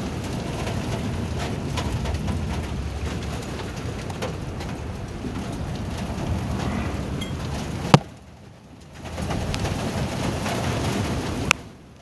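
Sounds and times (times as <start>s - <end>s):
low rumble: 0.0s - 10.2s
hail pattering: 0.0s - 12.0s.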